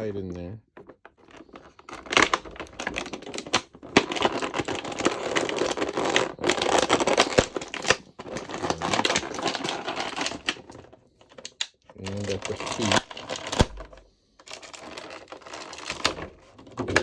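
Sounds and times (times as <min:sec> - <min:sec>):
plastic packaging crackling: 0:00.8 - 0:17.0.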